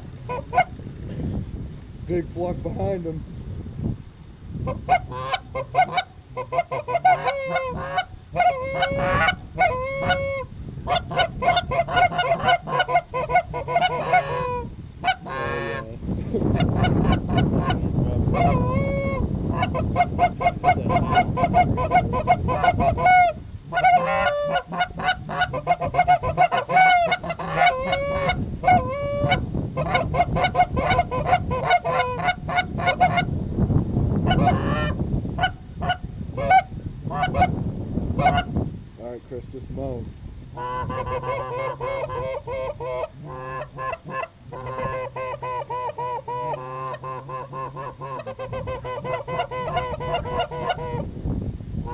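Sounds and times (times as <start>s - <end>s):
geese honking: 0.3s - 0.7s, 4.7s - 15.9s, 16.5s - 33.3s, 34.2s - 37.6s, 38.2s - 38.5s, 40.6s - 51.1s.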